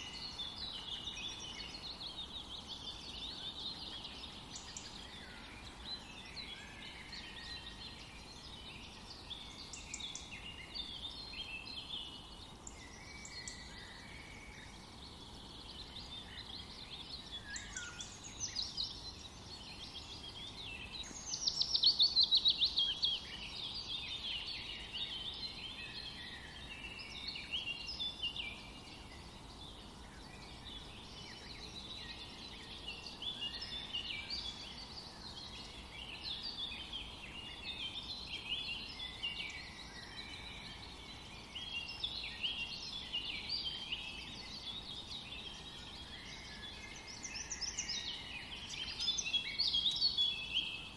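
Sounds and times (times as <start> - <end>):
birds chirping and singing: 0.0 - 50.9.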